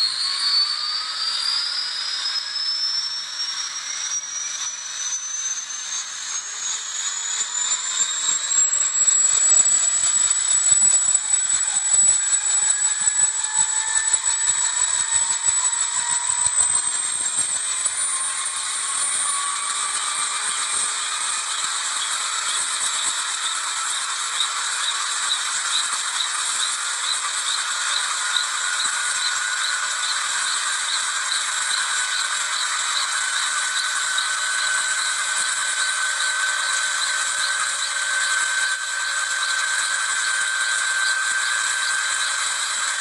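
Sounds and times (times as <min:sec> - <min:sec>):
small helicopter running: 0:00.0 - 0:43.0.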